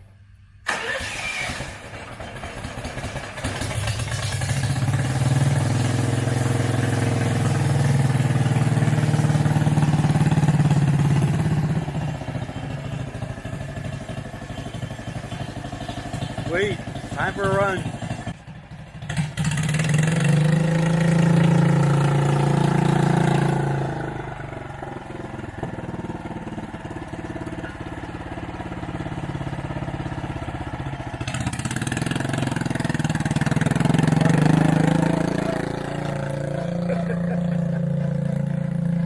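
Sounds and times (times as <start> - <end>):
garden tractor engine running: 0.7 - 39.0.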